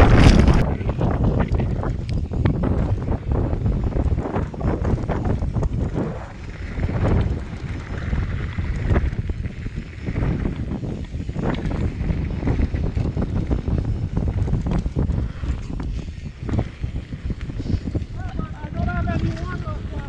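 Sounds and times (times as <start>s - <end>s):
bike clattering over bumps: 0.0s - 20.0s
wind buffeting microphone: 0.0s - 20.0s.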